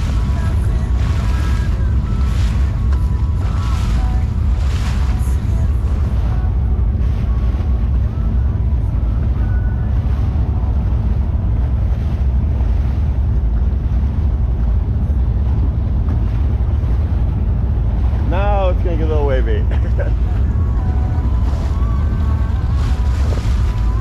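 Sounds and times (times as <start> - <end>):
boat engines rumbling: 0.0 - 24.0
wind buffeting microphone: 0.0 - 24.0.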